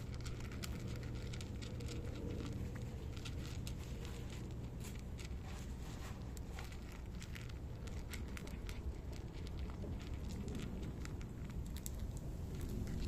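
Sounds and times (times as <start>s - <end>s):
cats crunching dry kibble: 0.0s - 13.0s
low steady rumble: 0.0s - 13.0s.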